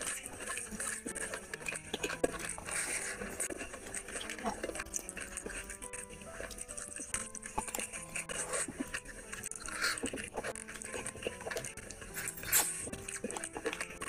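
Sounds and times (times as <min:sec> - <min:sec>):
slurps: 0:00.0 - 0:14.0
wet chewing and lip smacking: 0:00.0 - 0:14.0.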